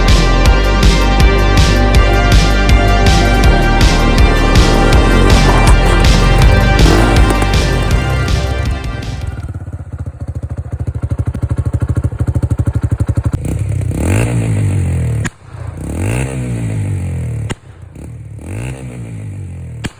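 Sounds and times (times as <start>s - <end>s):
quad engine revving: 0.8s - 19.9s.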